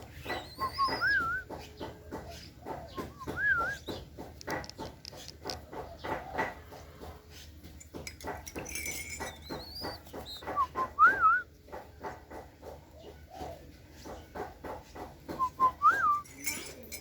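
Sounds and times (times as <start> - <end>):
dove pecking and tapping: 0.0 - 17.0.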